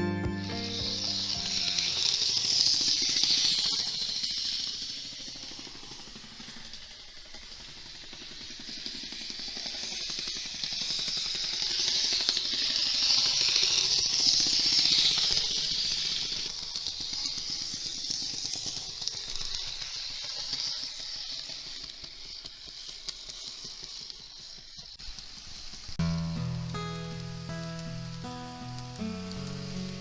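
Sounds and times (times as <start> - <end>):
model streetcar hissing and rattling: 0.7 - 27.3.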